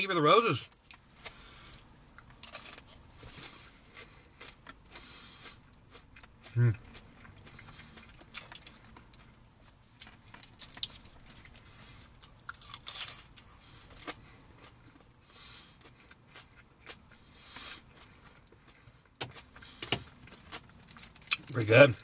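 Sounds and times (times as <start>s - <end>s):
crunchy chewing: 0.7s - 22.0s.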